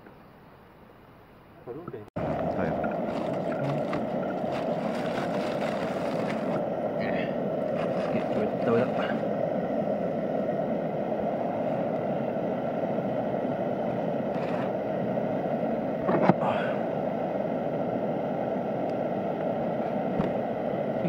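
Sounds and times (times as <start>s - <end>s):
low rushing noise: 2.2s - 21.0s.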